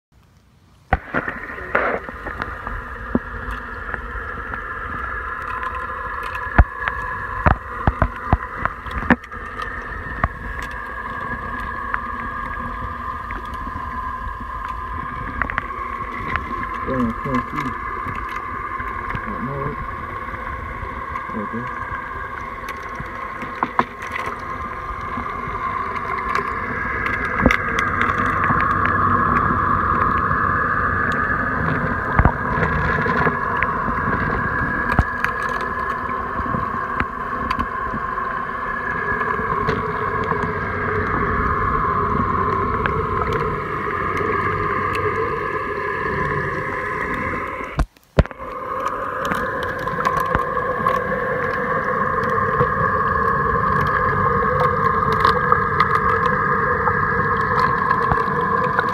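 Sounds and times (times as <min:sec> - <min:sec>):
underwater pool vacuum motor hum: 0:00.8 - 0:58.9.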